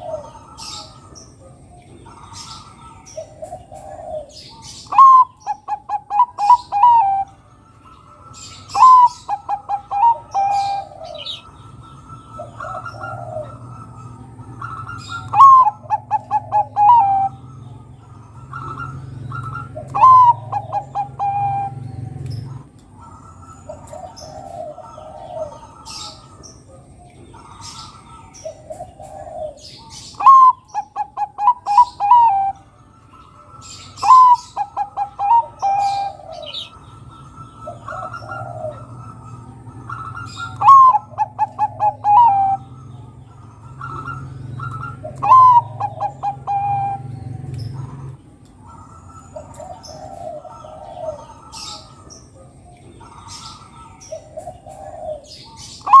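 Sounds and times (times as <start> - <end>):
dove cooing: 0.0 - 7.4, 8.3 - 32.6, 33.6 - 56.0.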